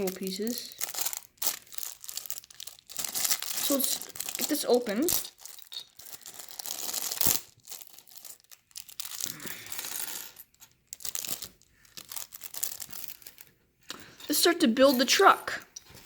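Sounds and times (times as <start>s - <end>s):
plastic bag crinkling and tearing: 0.0s - 10.3s, 10.9s - 13.5s
plastic pieces clicking and clattering: 0.0s - 13.5s.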